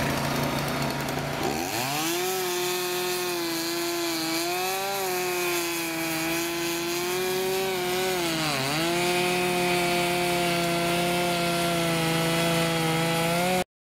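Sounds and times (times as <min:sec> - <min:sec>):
chainsaw cutting log: 0:00.0 - 0:13.7.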